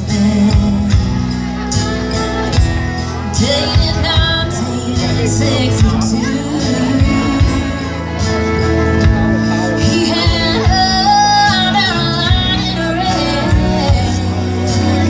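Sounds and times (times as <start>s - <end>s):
woman singing: 0.0s - 1.9s, 3.3s - 8.5s, 9.4s - 15.0s
live country band: 0.0s - 15.0s.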